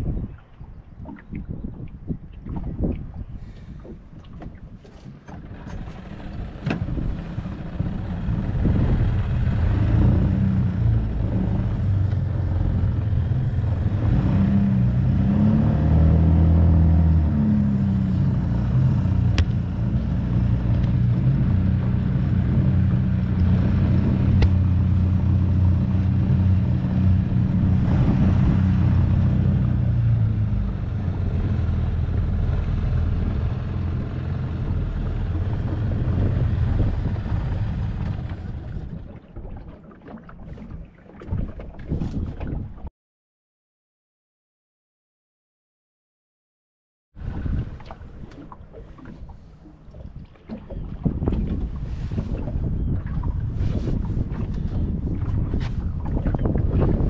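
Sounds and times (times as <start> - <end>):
outboard motor running: 0.0 - 42.8, 47.2 - 57.0
wind and water rushing: 0.0 - 42.9, 47.2 - 57.0.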